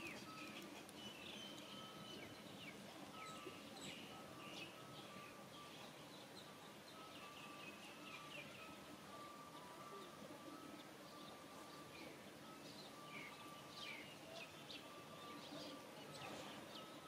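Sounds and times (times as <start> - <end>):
birds chirping: 0.0 - 17.0
faint steady hiss: 0.0 - 17.0.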